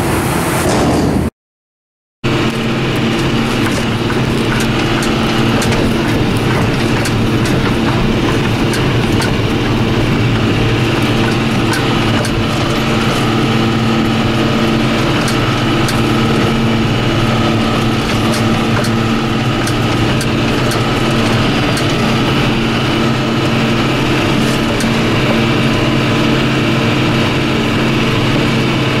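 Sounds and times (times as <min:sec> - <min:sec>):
tractor diesel engine under load: 0:02.2 - 0:29.0
light rattles and knocks: 0:02.4 - 0:28.3.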